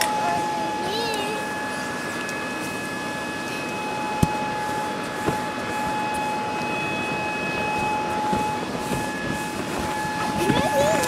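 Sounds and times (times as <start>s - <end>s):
electric air blower whining: 0.0s - 11.0s.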